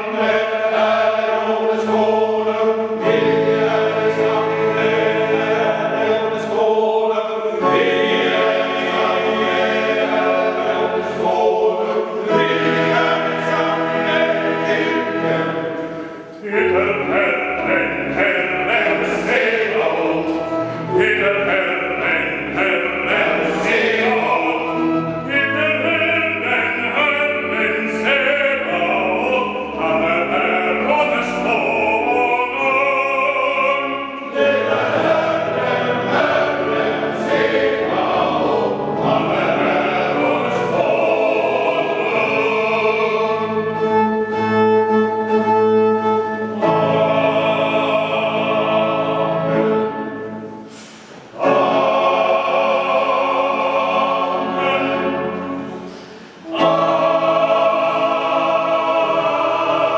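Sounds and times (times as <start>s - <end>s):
choir singing a hymn in a church: 0.0s - 59.9s.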